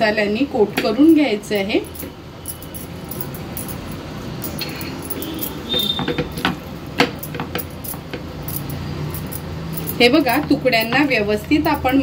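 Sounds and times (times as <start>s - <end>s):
bangles clinking: 0.8s - 12.0s.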